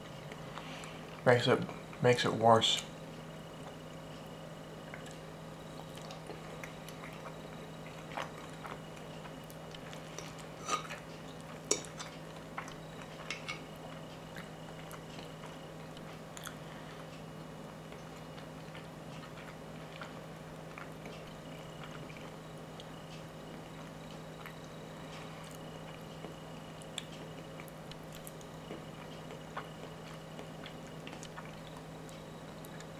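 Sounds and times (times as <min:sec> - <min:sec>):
steady low hum: 0:00.0 - 0:32.9
chewing: 0:03.5 - 0:32.9.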